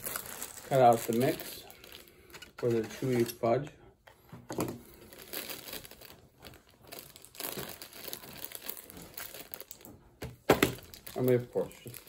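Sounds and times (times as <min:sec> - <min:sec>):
plastic bag crinkling: 0:00.0 - 0:03.6, 0:04.6 - 0:12.0.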